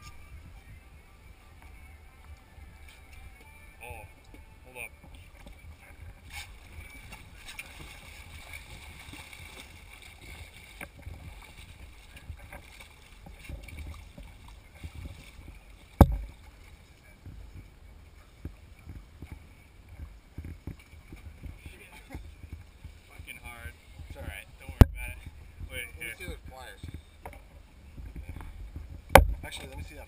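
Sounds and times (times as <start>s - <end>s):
wind and water against hull: 0.0s - 30.0s.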